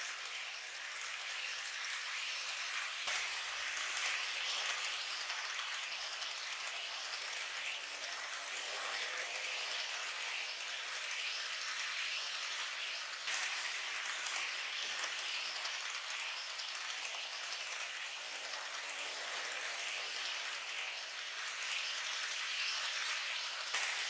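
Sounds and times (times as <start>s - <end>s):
model train wheels rattling on rails: 0.0s - 24.0s.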